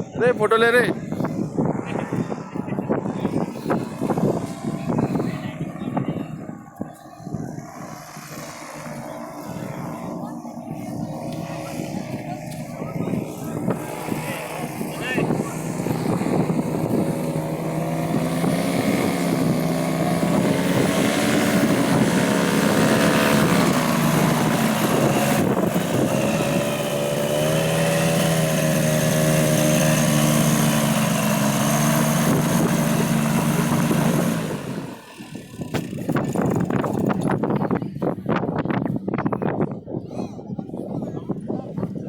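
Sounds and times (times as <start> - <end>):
paramotor engine droning: 0.0 - 42.0.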